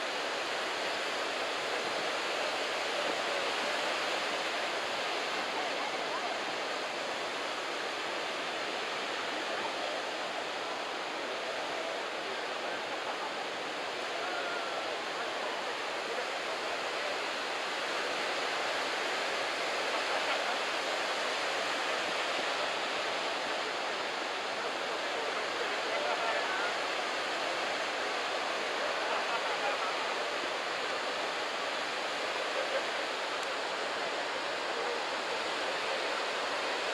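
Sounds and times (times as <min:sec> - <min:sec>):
surf washing on beach: 0:00.0 - 0:36.9.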